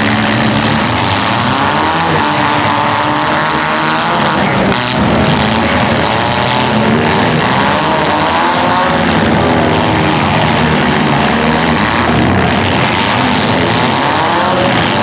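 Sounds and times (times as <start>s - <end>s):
car engines revving: 0.0s - 15.0s
cars ramming: 0.0s - 15.0s.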